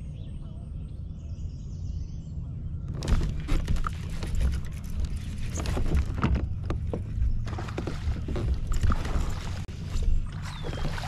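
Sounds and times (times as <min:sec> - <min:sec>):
low rumble of water on hull: 0:00.0 - 0:11.0.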